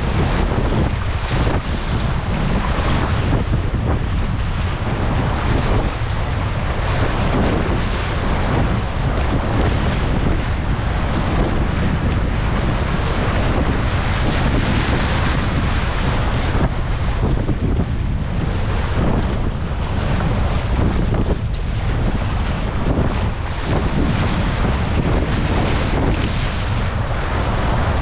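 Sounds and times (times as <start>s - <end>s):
rushing whitewater: 0.0s - 28.0s
waves splashing over kayak: 0.0s - 28.0s
wind buffeting microphone: 0.0s - 28.0s.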